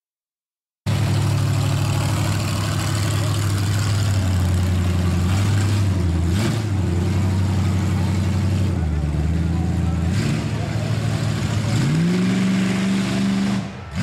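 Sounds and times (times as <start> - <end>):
truck engine running: 0.9 - 14.0.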